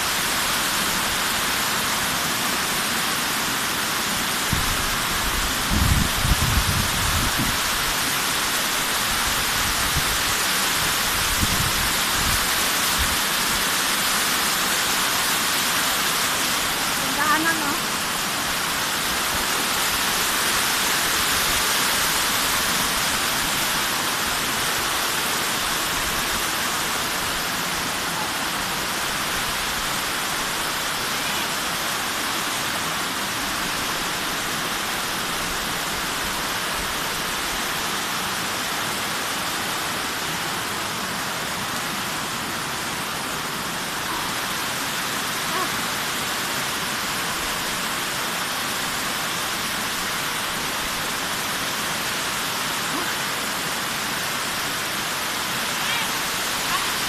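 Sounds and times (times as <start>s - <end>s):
waterfall rushing over rock: 0.0s - 57.0s.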